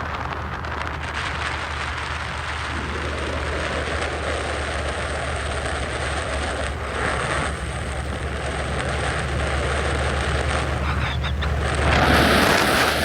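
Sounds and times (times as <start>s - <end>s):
car engine rumble: 0.0s - 13.0s
faint steady whine: 0.0s - 13.0s
road noise: 0.0s - 13.0s.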